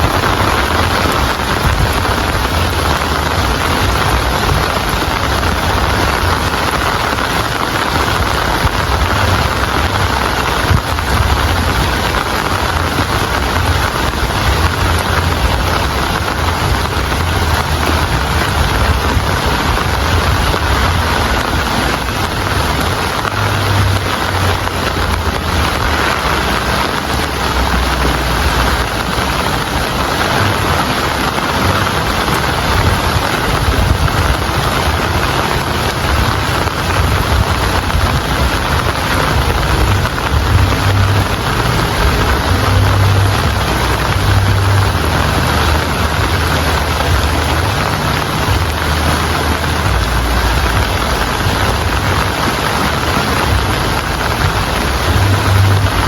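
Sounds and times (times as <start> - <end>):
heavy rain hissing: 0.0 - 56.0
low rumble: 0.0 - 56.0.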